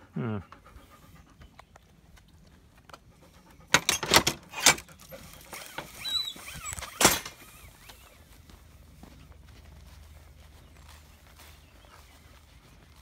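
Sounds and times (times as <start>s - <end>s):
footsteps on dirt path: 0.8s - 3.7s, 4.8s - 13.0s.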